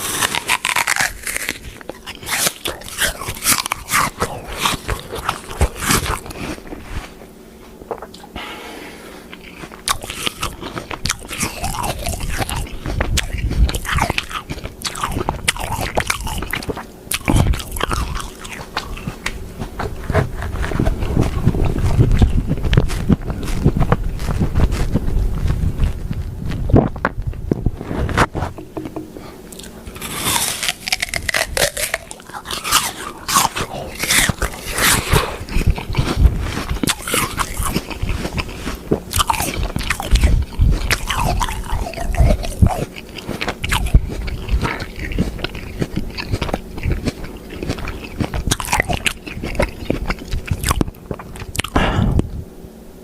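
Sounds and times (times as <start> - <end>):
chewing crunchy food: 0.0 - 52.3.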